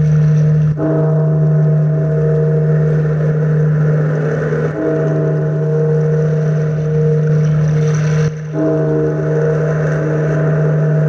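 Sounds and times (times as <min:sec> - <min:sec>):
large bell tolling: 0:00.0 - 0:11.0
steady low hum: 0:00.0 - 0:11.0
rushing noise: 0:01.5 - 0:11.0.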